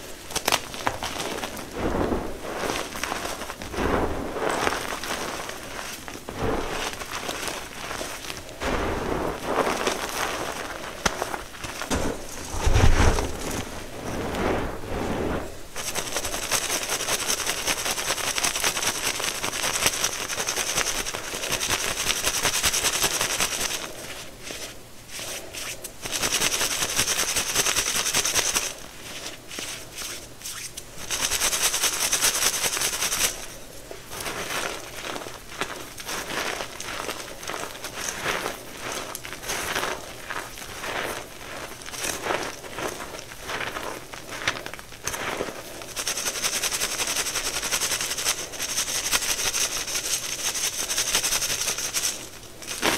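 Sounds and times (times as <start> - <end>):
chalk shaken through metal sieve: 0.0 - 52.9
hands crushing chalk powder: 0.0 - 52.9.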